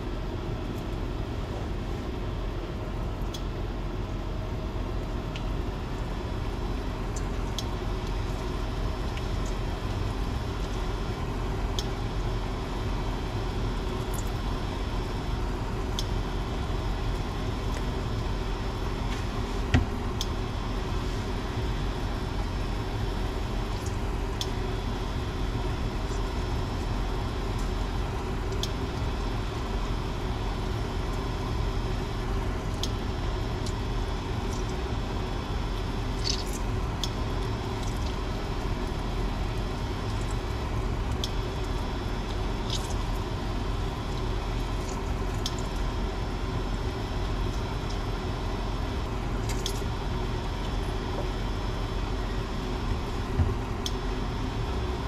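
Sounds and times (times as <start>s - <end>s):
constant hum: 0.0s - 55.0s.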